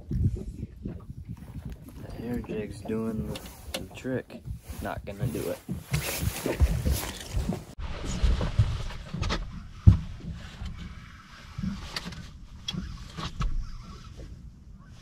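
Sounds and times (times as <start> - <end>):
water lapping at boat: 0.0 - 15.0
wind rumbling on microphone: 0.0 - 15.0.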